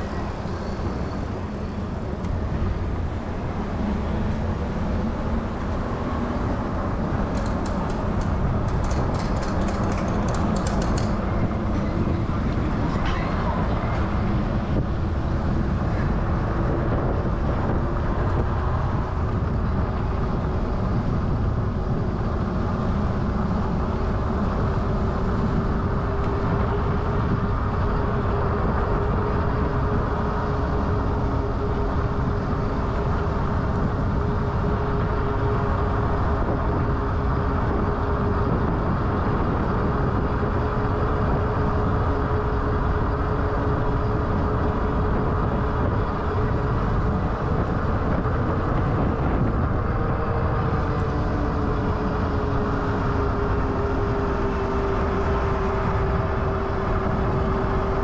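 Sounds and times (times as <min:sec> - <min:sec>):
steady motor whine: 0:00.0 - 0:58.0
wind buffeting microphone: 0:00.0 - 0:58.0.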